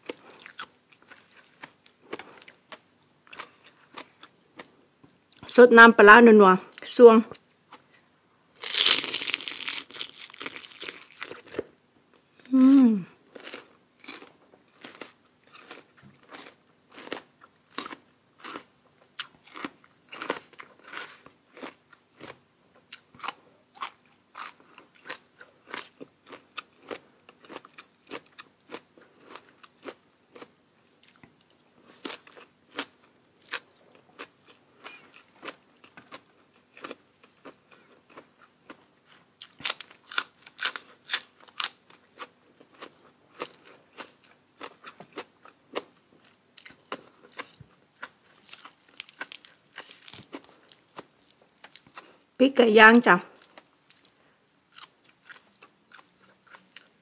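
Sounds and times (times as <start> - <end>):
chewing crunchy food: 0.0 - 5.4, 8.6 - 11.7, 13.3 - 52.3, 53.4 - 57.0.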